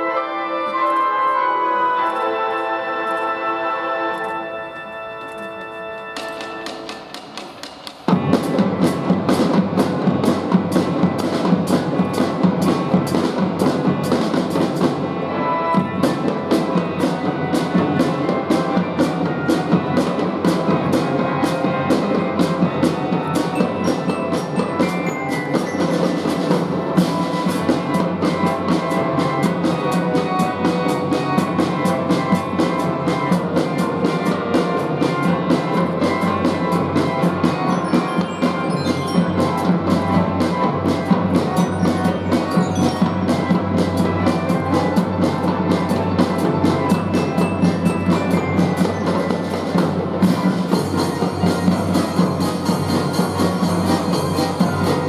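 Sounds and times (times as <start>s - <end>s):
fife and drum band playing: 0.0s - 55.0s
marching drums beating: 6.2s - 55.0s
glockenspiel: 8.8s - 55.0s.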